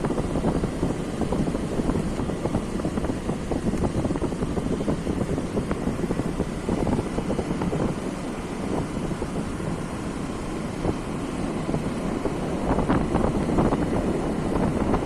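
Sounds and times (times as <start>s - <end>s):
vehicle running: 0.0s - 15.0s
wind buffeting microphone: 0.0s - 15.0s.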